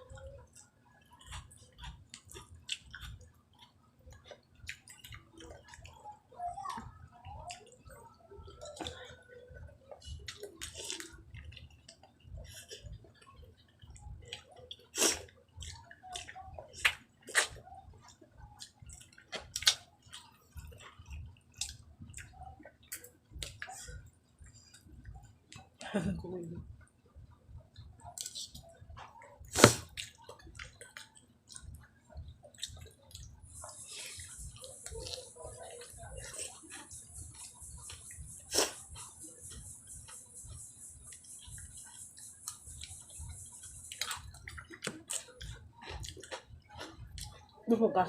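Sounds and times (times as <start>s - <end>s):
wet chewing and mouth smacks: 0.0s - 6.2s, 6.8s - 9.2s, 9.8s - 25.8s, 26.6s - 47.5s.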